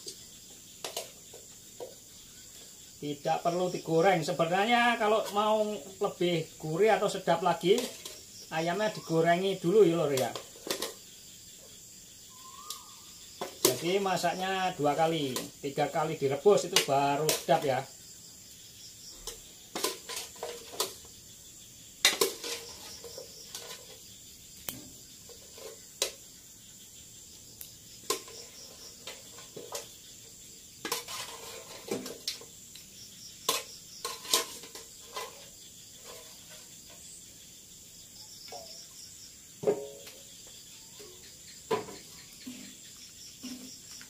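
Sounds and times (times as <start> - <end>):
crickets chirring: 0.0 - 44.0.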